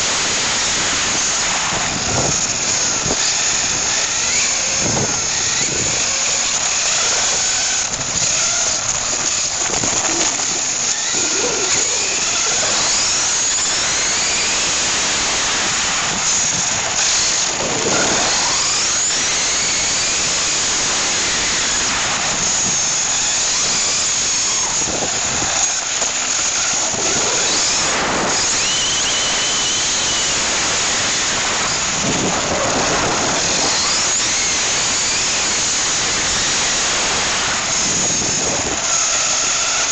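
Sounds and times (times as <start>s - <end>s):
electric motor whine: 0.0s - 39.9s
tyre and vibration rush: 0.0s - 39.9s.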